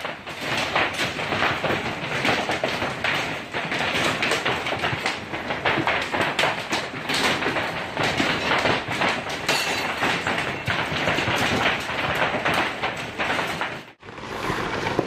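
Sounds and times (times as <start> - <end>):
hailstones clattering on hard surfaces: 0.0 - 14.0.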